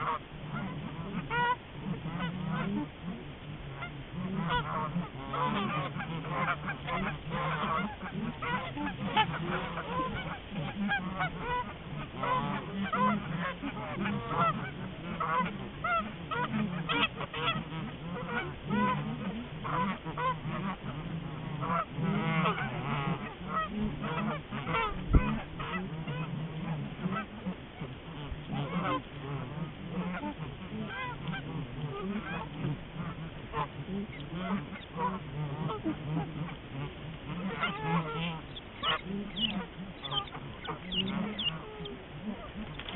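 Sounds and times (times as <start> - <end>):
geese honking: 0.0 - 42.9.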